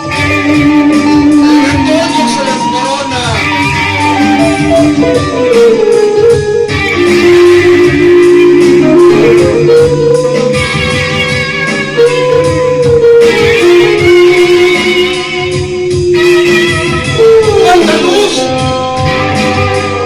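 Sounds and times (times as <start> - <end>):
electric guitar held notes: 0.0 - 20.0
steady low beat: 0.0 - 20.0.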